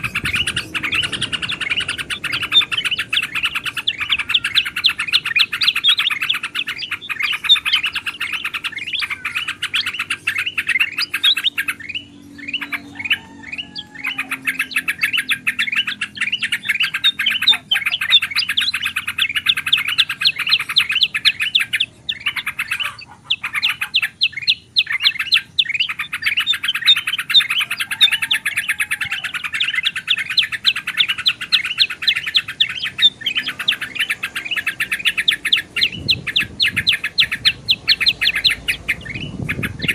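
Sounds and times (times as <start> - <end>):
bulbuls calling: 0.0 - 39.9.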